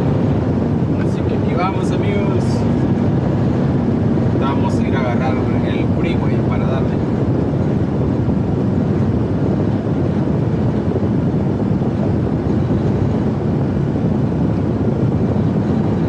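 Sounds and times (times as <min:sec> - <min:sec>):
truck diesel engine and road noise: 0:00.0 - 0:16.0.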